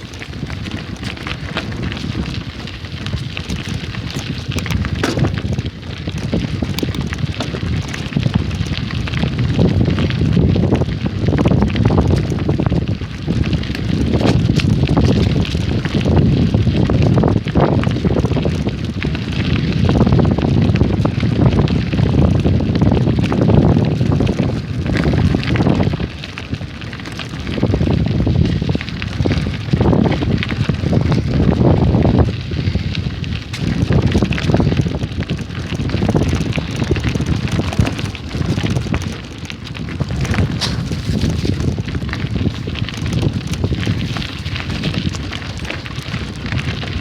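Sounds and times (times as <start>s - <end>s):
strong wind buffeting microphone: 0.0s - 47.0s.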